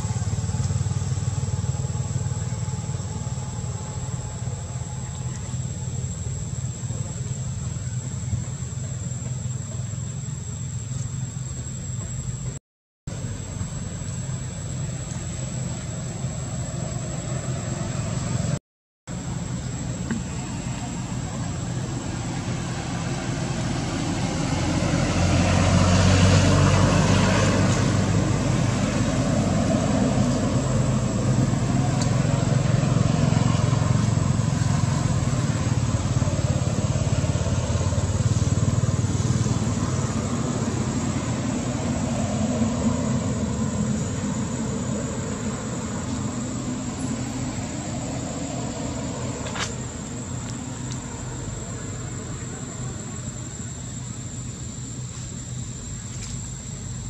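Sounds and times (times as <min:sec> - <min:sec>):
engine rumble: 0:00.0 - 0:57.0.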